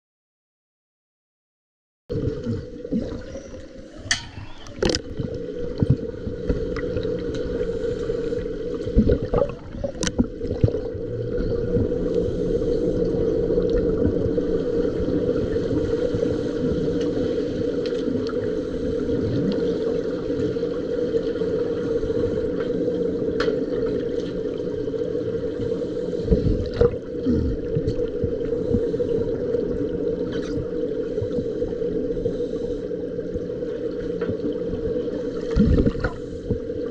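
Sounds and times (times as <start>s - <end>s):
low underwater hum: 2.1s - 36.9s
water bubbling and gurgling: 2.1s - 36.9s.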